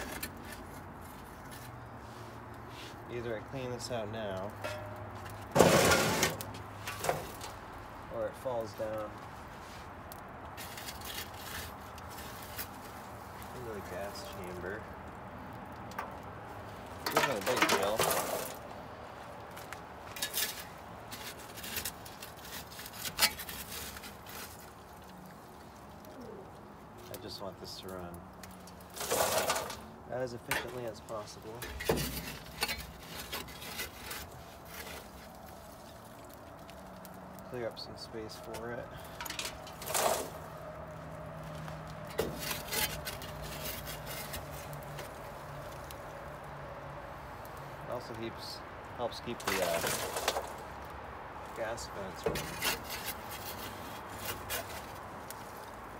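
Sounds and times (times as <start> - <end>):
tool scraping in firebox: 0.0 - 14.9, 17.0 - 18.8, 19.5 - 25.3, 27.1 - 36.4, 37.0 - 46.0, 48.3 - 55.9.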